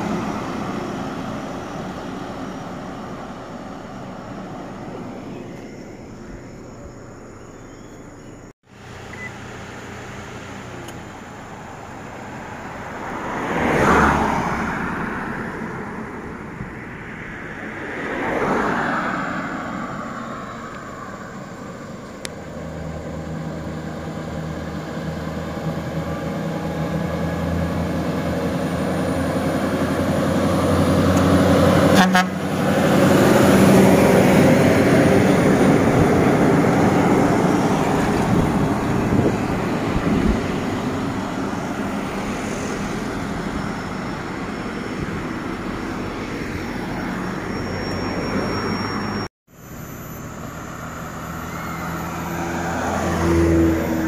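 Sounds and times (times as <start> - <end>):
cars passing: 0.0 - 54.0
truck engine hum: 0.0 - 54.0.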